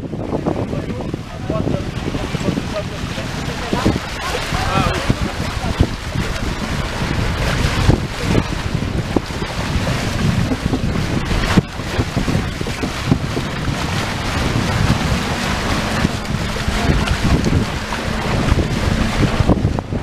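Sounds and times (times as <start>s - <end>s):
sea water rushing: 0.0s - 20.0s
wind buffeting microphone: 0.0s - 20.0s.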